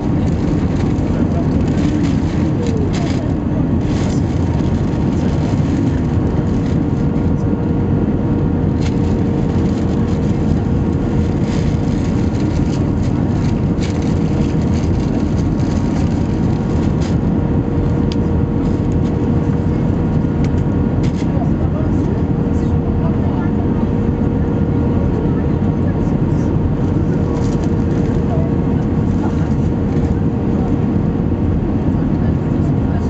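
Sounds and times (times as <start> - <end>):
airflow rushing over fuselage: 0.0 - 33.0
jet engines humming: 0.0 - 33.0.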